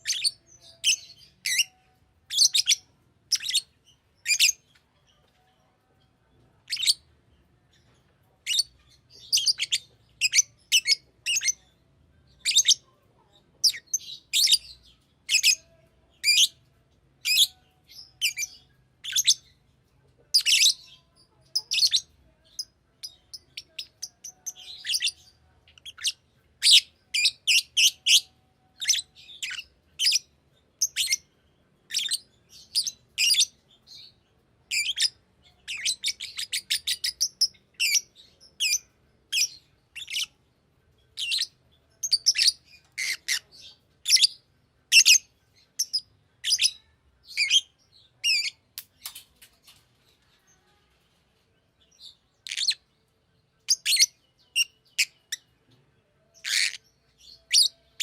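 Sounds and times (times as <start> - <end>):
lovebird chirping: 0.0 - 5.2, 6.5 - 16.6, 17.2 - 19.6, 20.3 - 40.4, 41.0 - 49.3, 51.8 - 52.9, 53.6 - 58.0.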